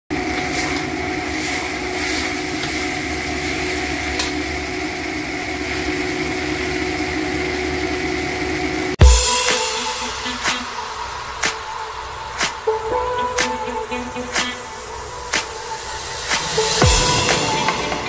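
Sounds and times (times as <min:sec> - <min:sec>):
noodles sizzling in a wok: 0:00.1 - 0:16.8.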